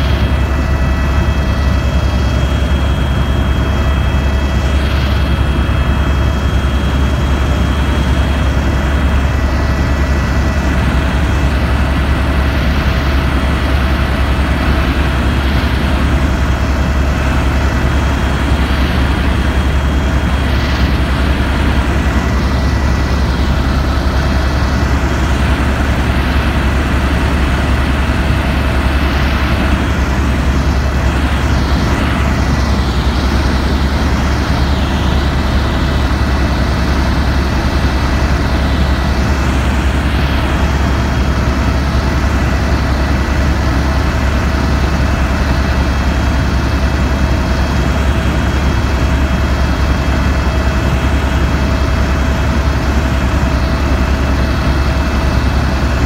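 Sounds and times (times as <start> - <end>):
helicopter rotor and engine drone: 0.0 - 56.0
high turbine whine: 0.0 - 56.0.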